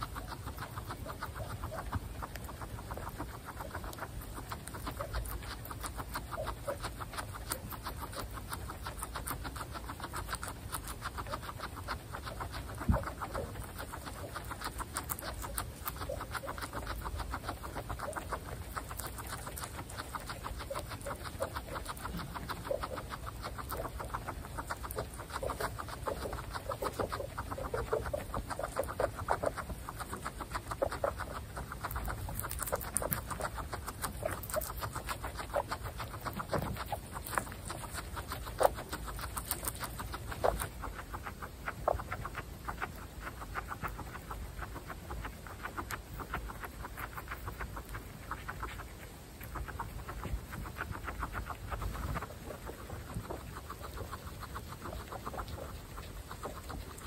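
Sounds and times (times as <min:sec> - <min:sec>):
guinea pigs munching grass: 0:00.0 - 0:57.0.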